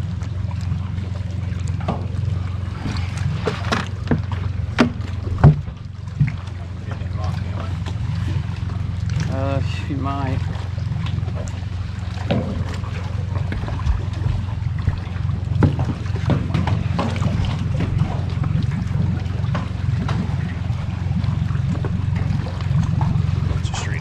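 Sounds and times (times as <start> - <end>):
low boat rumble: 0.0 - 24.0.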